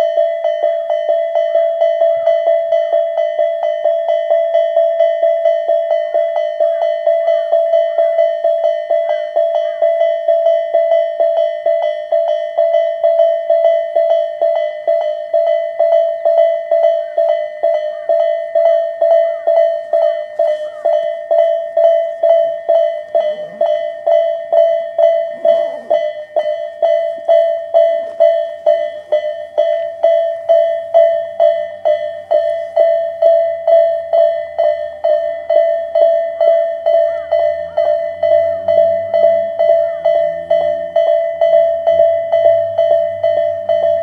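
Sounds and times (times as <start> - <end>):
electronic level-crossing bell: 0.0 - 44.0.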